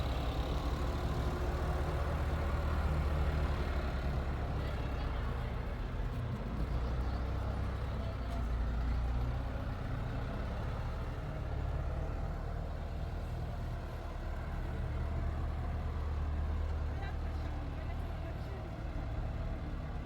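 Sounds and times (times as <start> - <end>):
large engine rumbling: 0.0 - 20.0.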